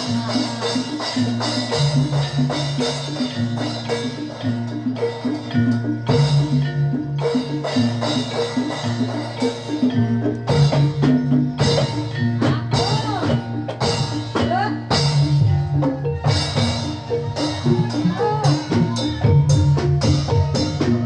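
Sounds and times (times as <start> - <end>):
drums: 0.0 - 21.0
gamelan-style percussion: 0.0 - 21.0.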